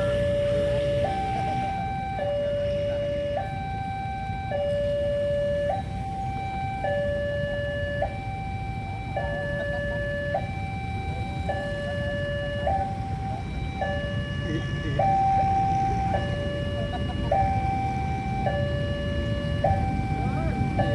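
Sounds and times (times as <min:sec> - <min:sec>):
level crossing two-tone alarm: 0:00.0 - 0:20.9.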